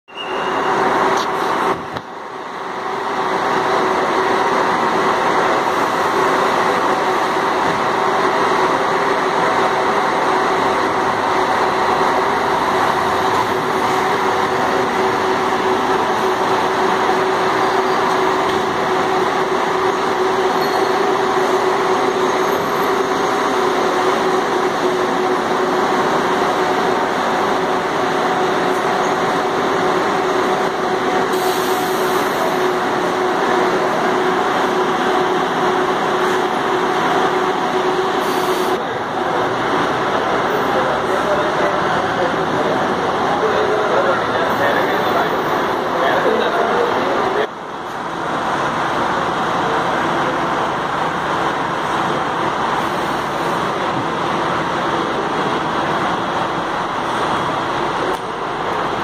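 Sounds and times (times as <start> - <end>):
bus diesel engine idling: 0.1 - 59.0.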